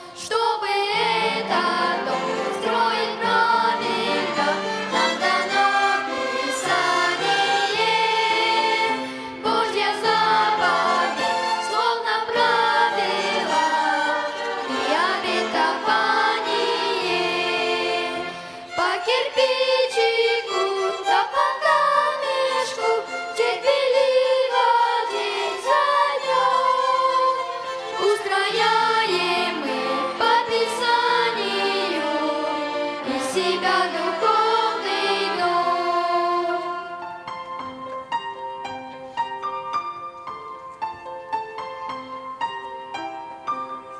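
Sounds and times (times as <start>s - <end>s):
choir singing church song: 0.0s - 37.3s
violin ensemble holding long notes: 1.0s - 37.3s.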